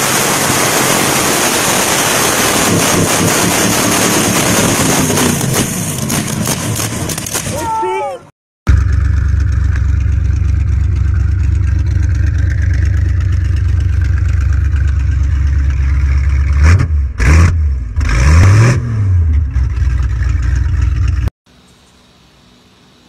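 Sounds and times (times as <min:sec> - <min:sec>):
engine idling and revving: 0:00.0 - 0:07.4, 0:08.7 - 0:21.3.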